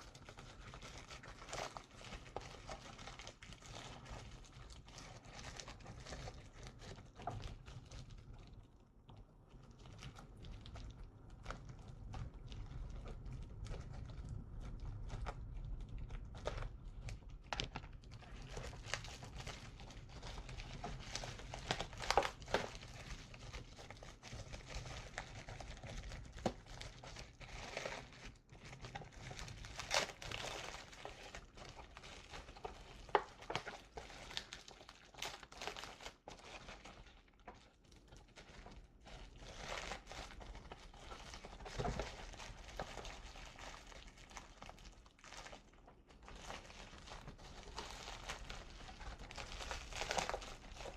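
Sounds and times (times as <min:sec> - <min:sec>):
packaging crinkling and rustling: 0:00.0 - 0:50.9.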